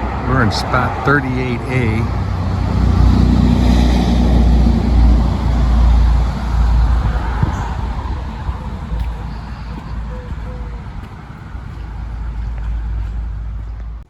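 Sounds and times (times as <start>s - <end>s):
vehicle passing rumble: 0.0s - 14.0s.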